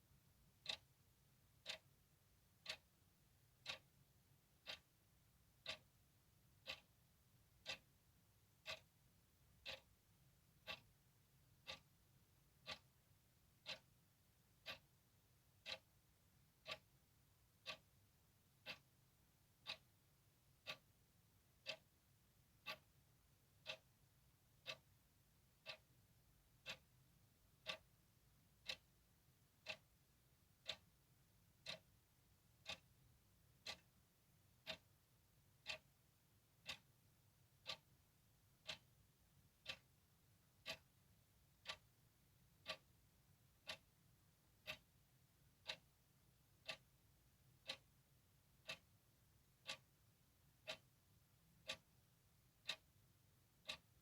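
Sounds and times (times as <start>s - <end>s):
clock ticking: 0.3s - 54.0s.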